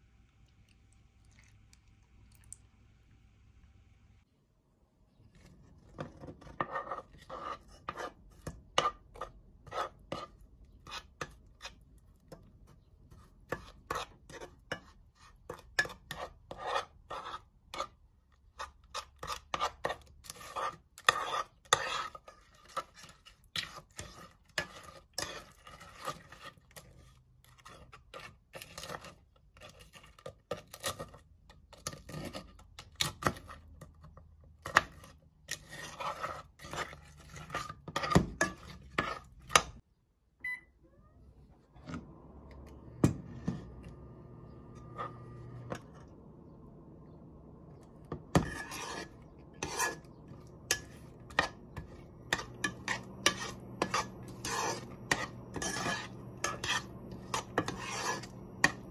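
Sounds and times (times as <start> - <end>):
metal spoon scraping saucepan: 5.4 - 39.8, 42.9 - 46.5, 47.6 - 58.9.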